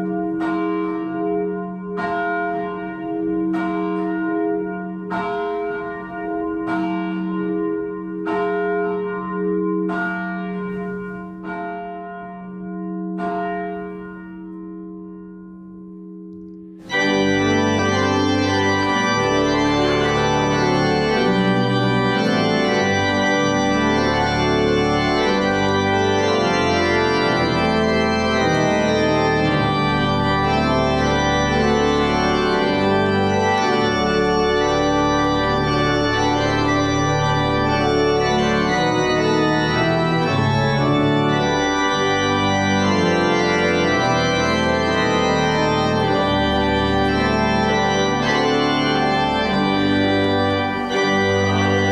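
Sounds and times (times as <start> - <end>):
church organ chords: 0.0 - 51.9.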